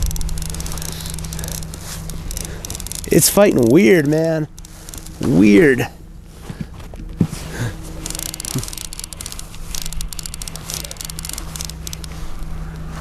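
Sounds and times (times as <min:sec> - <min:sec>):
fishing reel clicking: 0:00.0 - 0:05.9, 0:07.8 - 0:12.9
outboard motor humming: 0:00.0 - 0:13.0.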